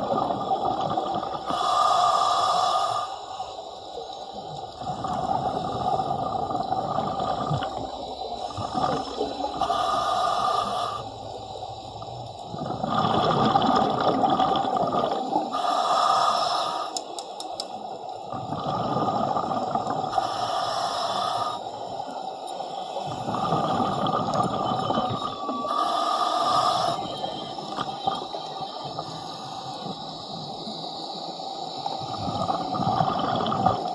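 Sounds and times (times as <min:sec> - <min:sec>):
bubbling on exhale: 0:00.0 - 0:03.3, 0:04.3 - 0:17.0, 0:18.2 - 0:22.0, 0:22.9 - 0:33.9
regulator hiss on inhale: 0:01.1 - 0:13.6, 0:15.0 - 0:33.9.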